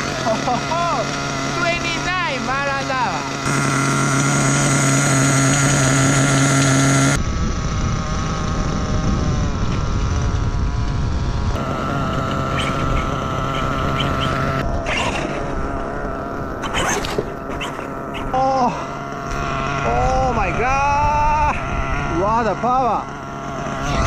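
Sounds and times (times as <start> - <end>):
small model engine idling: 0.0 - 24.0.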